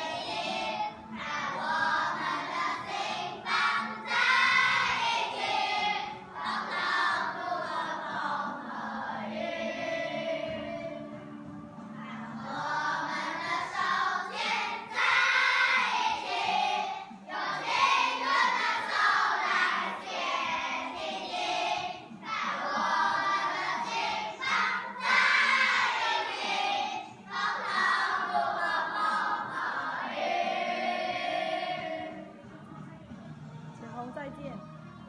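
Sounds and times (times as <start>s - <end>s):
children singing in a choir: 0.0s - 11.4s, 12.1s - 32.3s.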